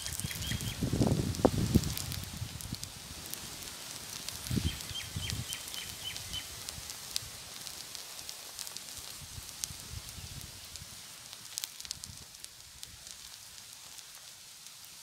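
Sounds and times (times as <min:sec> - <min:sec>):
pancake sizzling in oil: 0:00.0 - 0:15.0.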